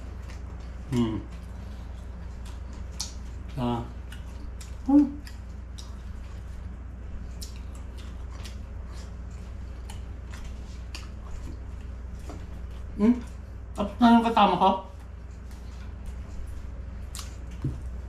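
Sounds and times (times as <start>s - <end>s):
person chewing with wet smacks: 0.0s - 13.9s, 14.9s - 18.0s
steady low hum: 0.0s - 18.0s.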